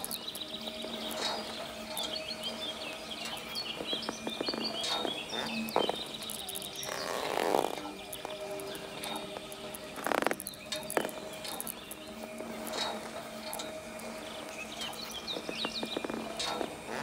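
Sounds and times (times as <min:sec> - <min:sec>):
bird-like chirps and twitters: 0:00.0 - 0:17.0
scattered clicks: 0:00.0 - 0:17.0
steady low drone: 0:00.0 - 0:17.0.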